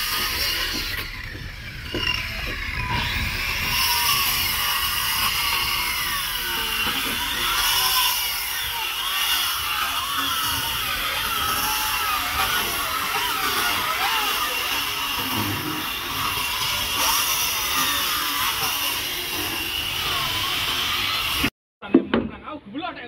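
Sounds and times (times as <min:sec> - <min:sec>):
circular saw cutting timber: 0:00.0 - 0:21.5.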